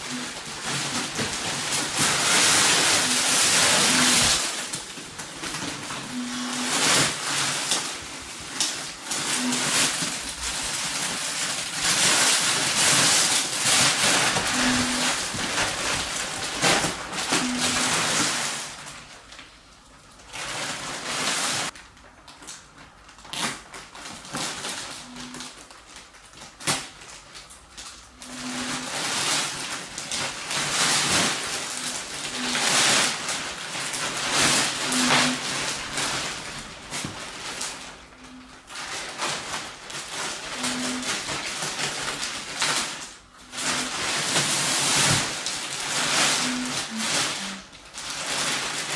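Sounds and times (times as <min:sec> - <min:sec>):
plastic sheeting crinkling: 0:00.0 - 0:48.9.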